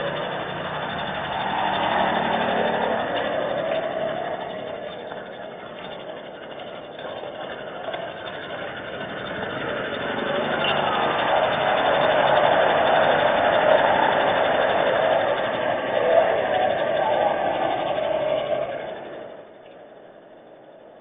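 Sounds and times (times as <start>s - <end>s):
road vehicle hiss: 0.0s - 20.4s.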